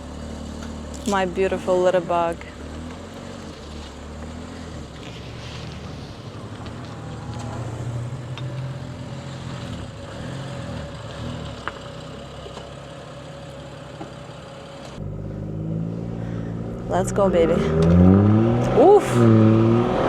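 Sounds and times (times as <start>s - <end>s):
car engine at low revs: 0.0s - 20.0s.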